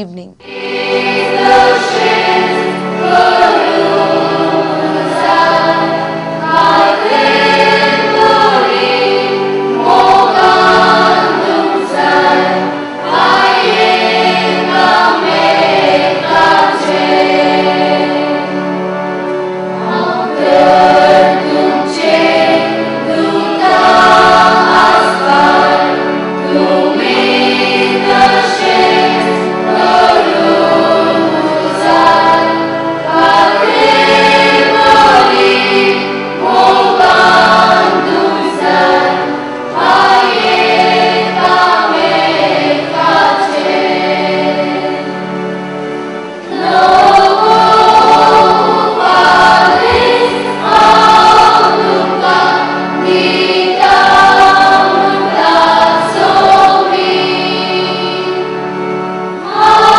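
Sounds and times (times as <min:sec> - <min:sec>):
church choir singing a hymn: 0:00.1 - 0:59.9.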